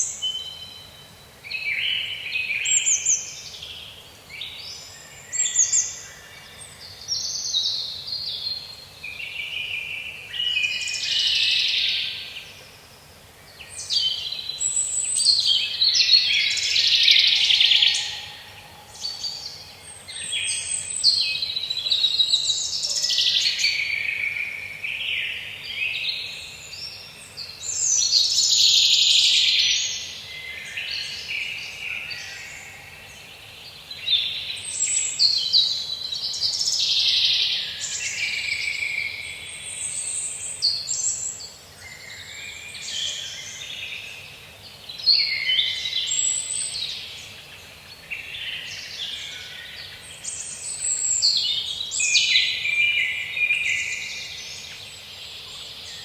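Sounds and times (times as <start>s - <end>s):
faint steady background hiss: 0.0s - 56.0s
songbirds singing: 0.0s - 56.0s.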